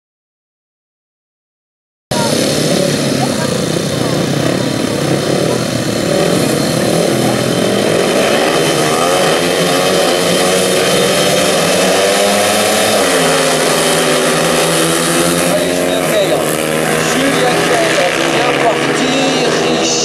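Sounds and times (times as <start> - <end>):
motorcycle engines revving: 2.1 - 20.0.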